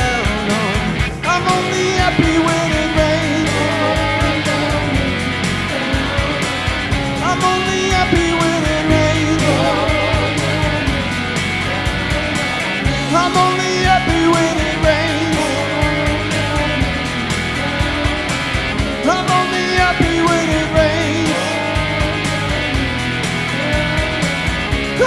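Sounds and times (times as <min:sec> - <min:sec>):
bending guitar melody: 0:00.0 - 0:25.0
rock band playing: 0:00.0 - 0:25.0.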